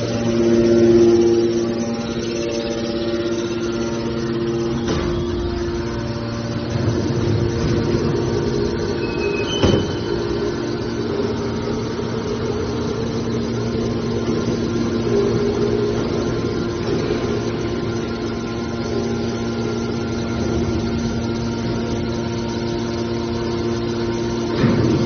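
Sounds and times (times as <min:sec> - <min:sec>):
motor and hydraulic pump humming: 0:00.0 - 0:25.0.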